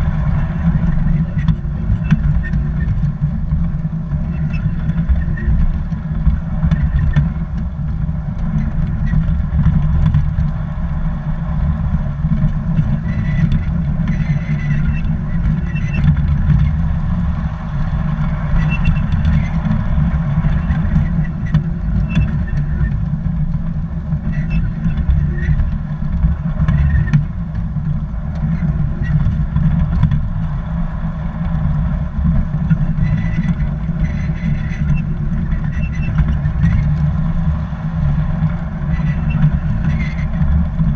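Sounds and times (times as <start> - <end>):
wheels clicking on track: 0.0 - 40.9.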